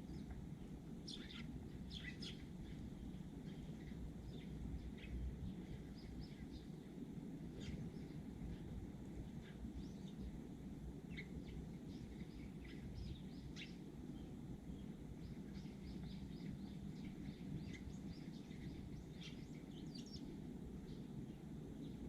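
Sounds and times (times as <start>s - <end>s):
low background rumble: 0.0s - 22.0s
sparrows chirping: 0.0s - 22.0s.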